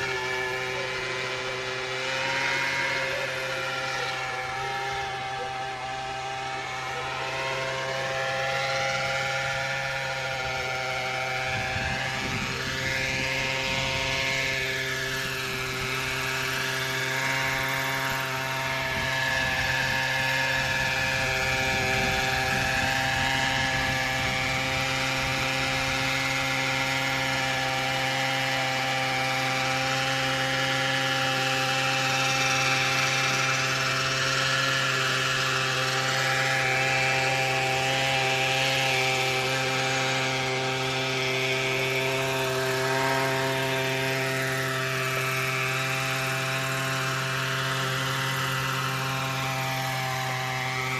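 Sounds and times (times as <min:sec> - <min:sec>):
rc helicopter engine and rotor drone: 0:00.0 - 0:50.9.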